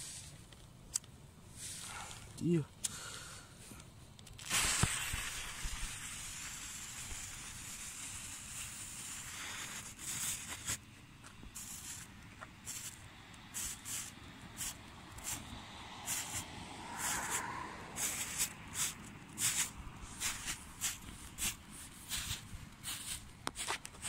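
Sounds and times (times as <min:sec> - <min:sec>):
firework fountain hissing: 0:00.0 - 0:00.4, 0:01.5 - 0:24.0.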